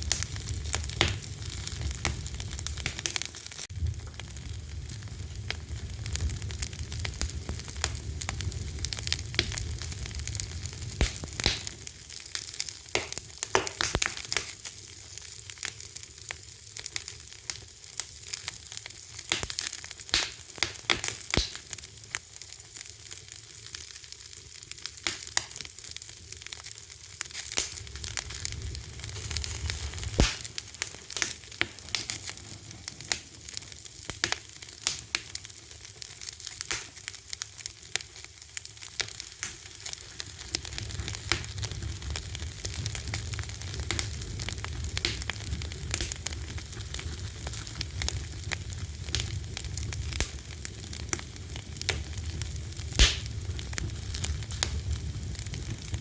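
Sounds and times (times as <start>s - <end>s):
loud fire pops: 0.0s - 22.2s, 24.8s - 56.0s
fire crackling: 0.0s - 56.0s.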